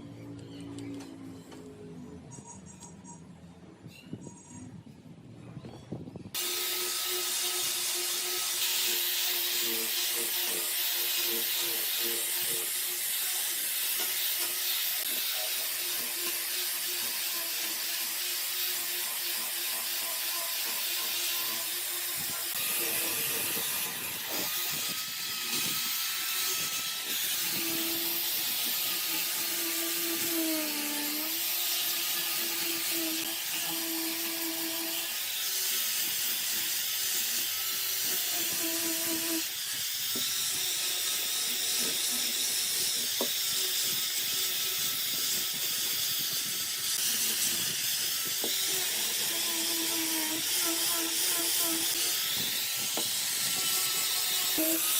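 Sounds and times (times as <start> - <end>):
power tool hissing: 6.4 - 54.9.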